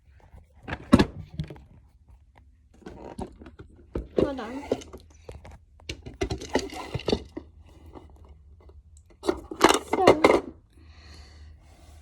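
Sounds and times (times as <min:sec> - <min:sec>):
rustling and clattering: 0:00.0 - 0:10.5.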